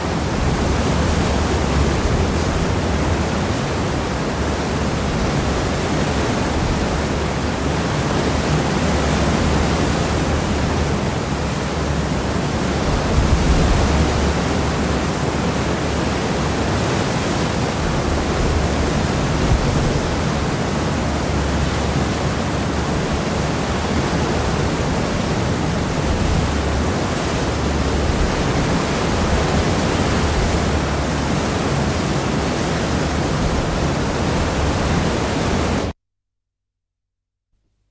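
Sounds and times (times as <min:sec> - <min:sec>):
water rushing in ship wake: 0:00.0 - 0:36.0.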